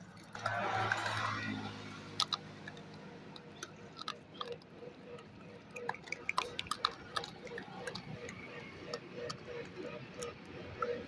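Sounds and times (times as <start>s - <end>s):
monkey chewing food: 2.0s - 11.0s.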